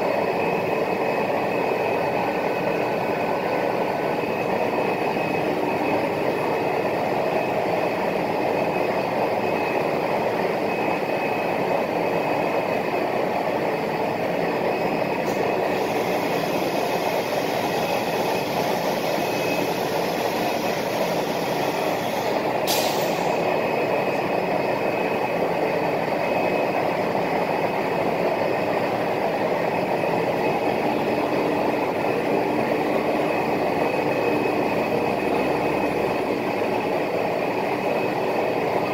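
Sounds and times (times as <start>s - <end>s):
cnc router running: 0.0s - 22.6s, 23.3s - 38.9s.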